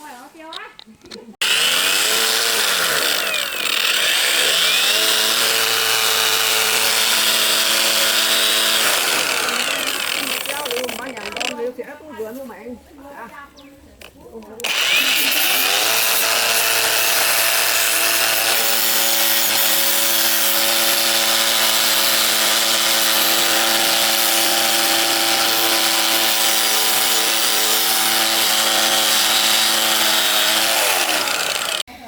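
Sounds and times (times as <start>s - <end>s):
electric power tool whining: 1.4s - 11.6s, 14.6s - 31.9s.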